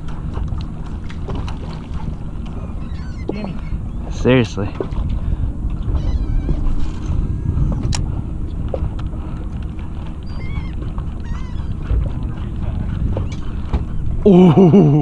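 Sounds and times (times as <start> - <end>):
seabirds calling: 0.0 - 15.0
steady low rumble: 0.0 - 15.0.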